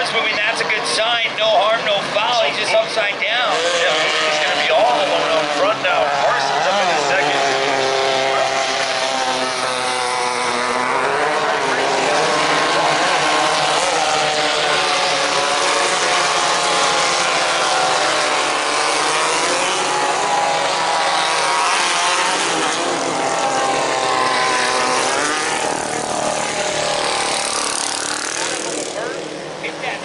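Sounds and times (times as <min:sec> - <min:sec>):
race buggy engines running hard: 0:00.0 - 0:30.0.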